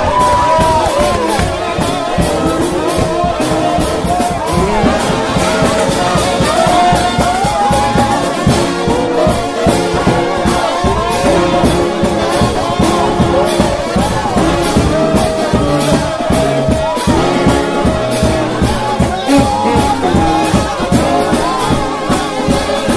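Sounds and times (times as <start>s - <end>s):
steady drum beat: 0.0s - 22.9s
trombones playing lively tune: 0.0s - 22.9s.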